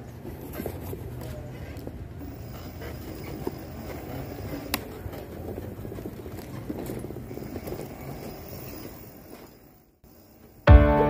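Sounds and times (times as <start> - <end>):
bicycle tyres rumbling on paving: 0.0 - 10.6.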